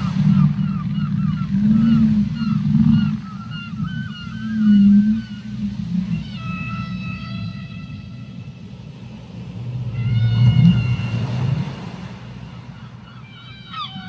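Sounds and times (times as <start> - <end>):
whale call: 0.0 - 14.0.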